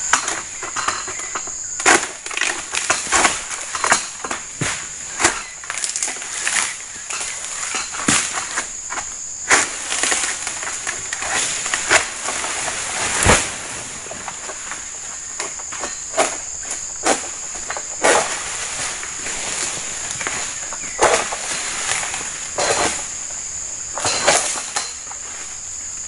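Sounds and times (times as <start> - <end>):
high insect drone: 0.0 - 26.0
sickle cutting frond stems: 1.8 - 23.2.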